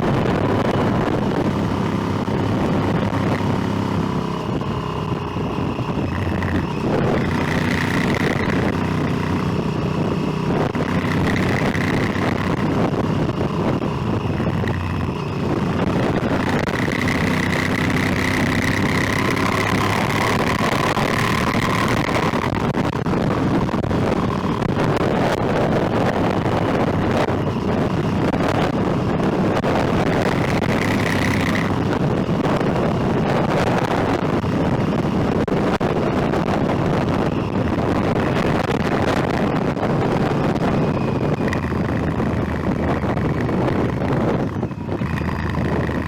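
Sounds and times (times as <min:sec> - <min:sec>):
motorcycle engine running: 0:00.0 - 0:46.0
wind rush over microphone: 0:00.0 - 0:46.0.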